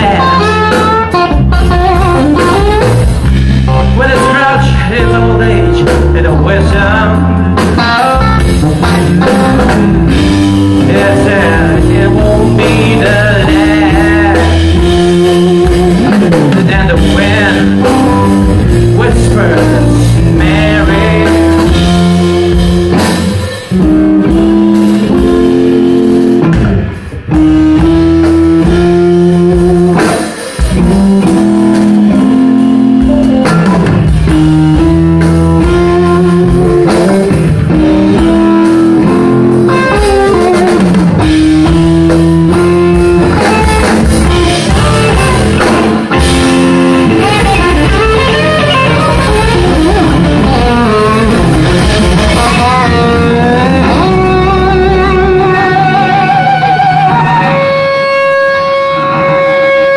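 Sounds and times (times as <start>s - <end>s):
drum kit: 0.0s - 59.9s
electric guitars through amplifiers: 0.0s - 59.9s.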